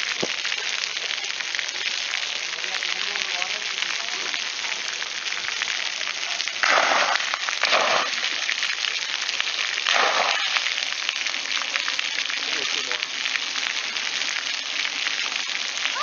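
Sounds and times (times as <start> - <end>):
water jets splattering on concrete: 0.0 - 16.0.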